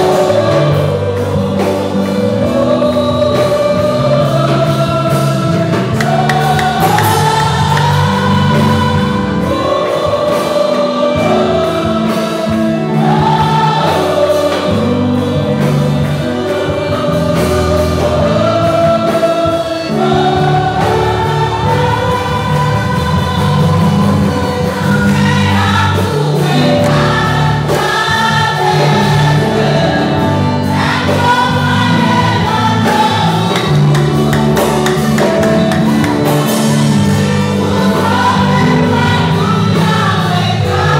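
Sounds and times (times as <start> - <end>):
congregation singing worship song: 0.0 - 40.9.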